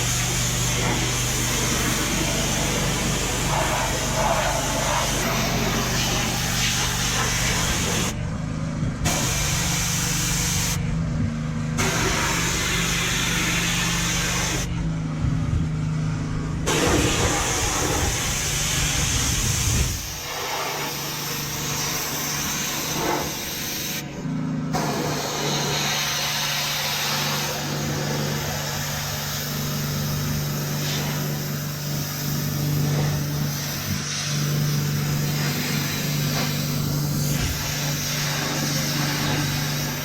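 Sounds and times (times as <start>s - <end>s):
water jet hissing on metal: 0.0s - 8.2s, 9.1s - 10.8s, 11.8s - 14.7s, 16.7s - 24.2s, 24.8s - 40.0s
pressure washer humming: 0.0s - 40.0s.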